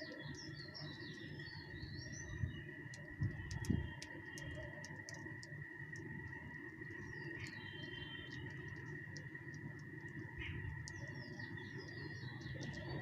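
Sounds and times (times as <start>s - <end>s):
low background rumble: 0.0s - 13.0s
small birds chirping: 0.0s - 13.0s
steady high-pitched hum: 0.0s - 13.0s.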